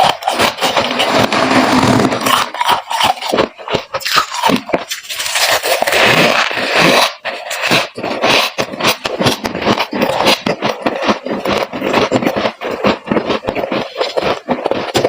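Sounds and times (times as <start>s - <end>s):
frost being chewed crunching: 0.0s - 15.0s.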